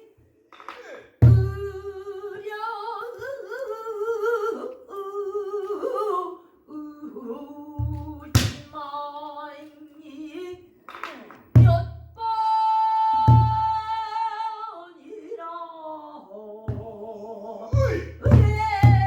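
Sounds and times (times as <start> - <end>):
woman singing with vibrato: 1.2 - 19.0.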